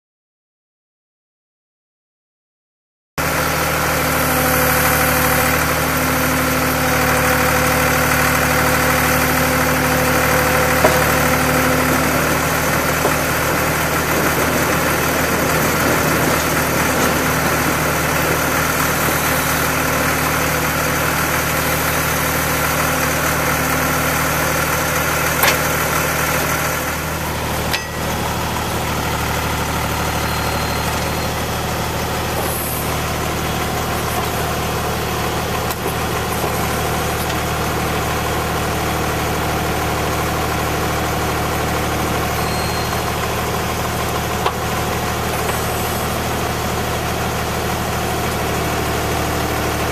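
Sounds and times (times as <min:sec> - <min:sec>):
machine engine running: 0:03.2 - 0:49.9.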